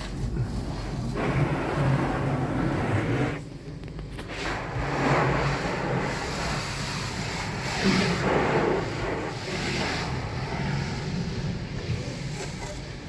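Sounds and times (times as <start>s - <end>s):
water spraying onto a car: 0.0s - 13.0s.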